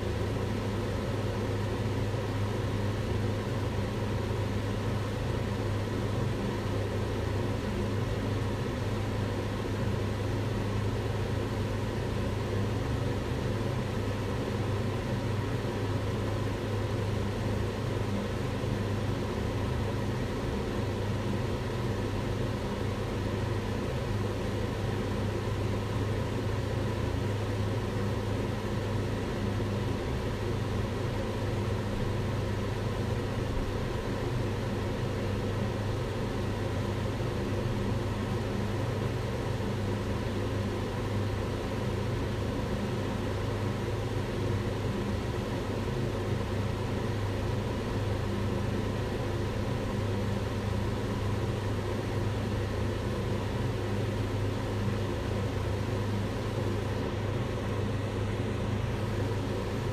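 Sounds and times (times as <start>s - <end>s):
range hood fan running: 0.0s - 59.9s.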